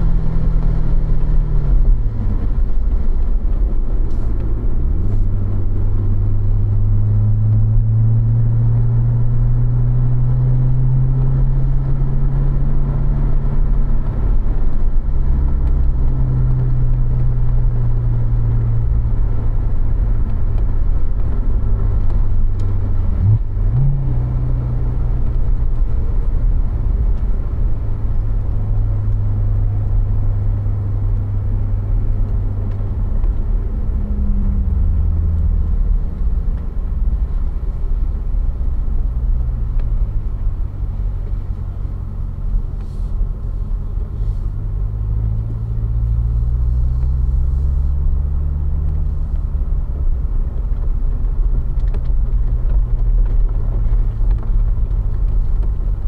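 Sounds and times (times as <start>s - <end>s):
car engine running at low revs: 0.0s - 56.0s.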